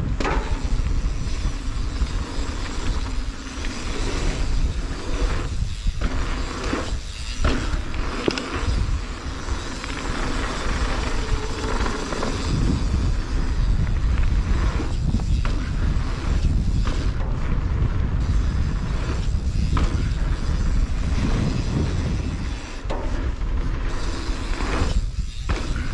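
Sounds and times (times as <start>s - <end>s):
bike rattling over bumps: 0.0s - 25.9s
bike tyre noise on dirt: 0.0s - 25.9s
wind rumble on microphone: 0.0s - 25.9s.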